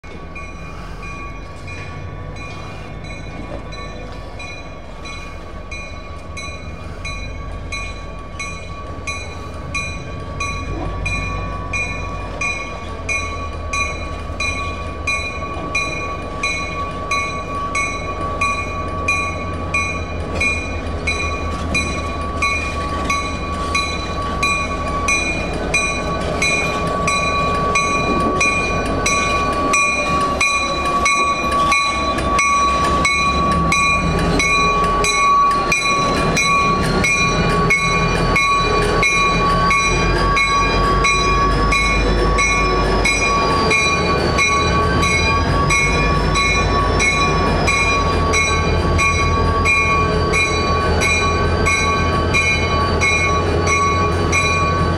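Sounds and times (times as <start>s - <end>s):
diesel locomotive engine: 0.0s - 54.9s
locomotive bell ringing: 0.0s - 54.9s.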